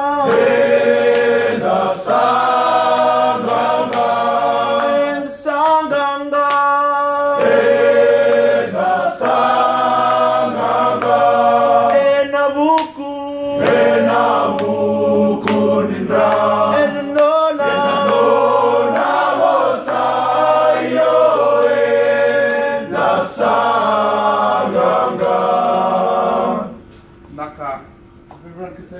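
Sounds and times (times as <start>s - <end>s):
men singing a hymn a cappella: 0.0s - 26.9s.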